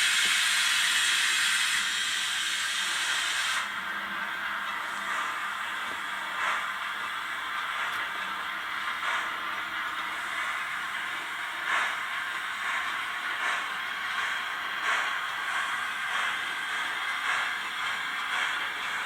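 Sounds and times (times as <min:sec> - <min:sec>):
soft steam chuffs: 0:00.0 - 0:19.0
steam hiss from small speaker: 0:00.0 - 0:19.0.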